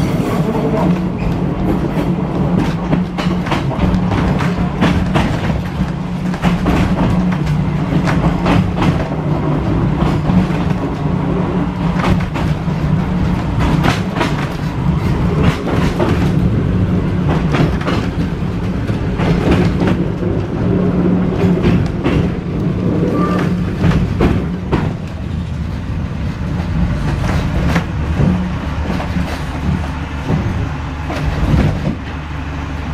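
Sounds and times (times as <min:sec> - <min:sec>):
wheels clicking over rail joints: 0:00.0 - 0:32.2
electric tram humming: 0:00.0 - 0:32.9.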